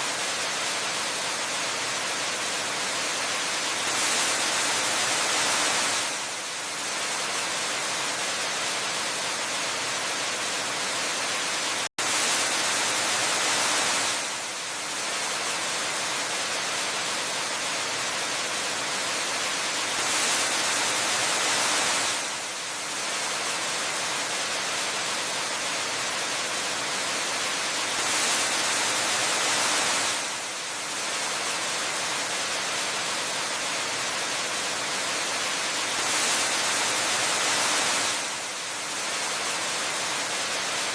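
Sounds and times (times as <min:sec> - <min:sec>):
rushing waterfall: 0:00.0 - 0:40.9.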